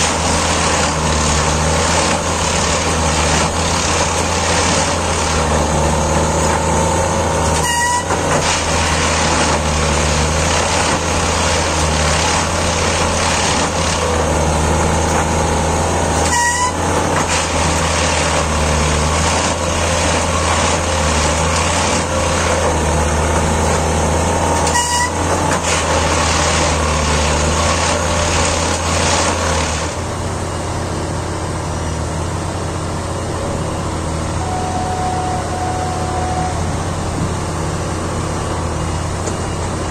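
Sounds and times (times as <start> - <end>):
engine drone: 0.0 - 39.9.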